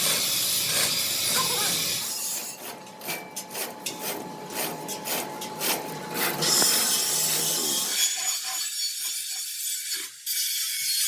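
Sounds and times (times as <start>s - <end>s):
hand tool rasping on a surface: 0.0s - 11.0s.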